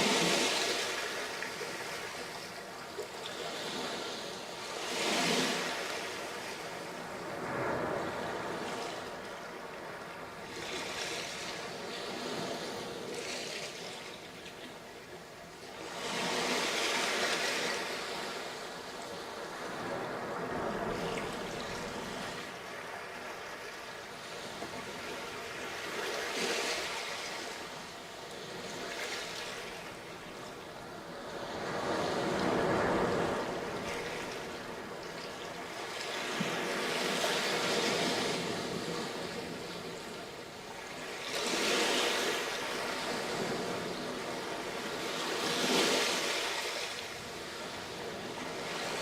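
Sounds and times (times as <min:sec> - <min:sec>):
sea waves breaking on beach: 0:00.0 - 0:49.0.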